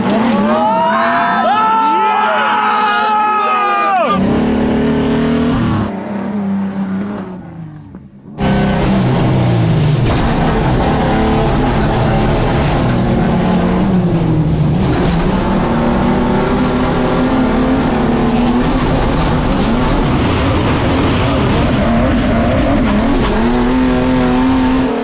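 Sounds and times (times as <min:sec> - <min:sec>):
engines revving at full throttle: 0:00.0 - 0:25.0.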